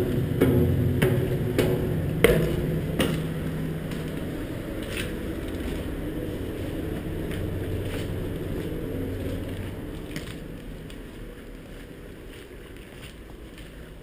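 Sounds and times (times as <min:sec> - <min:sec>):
footsteps on steel deck: 0:00.0 - 0:14.0
low machinery hum: 0:00.0 - 0:14.0.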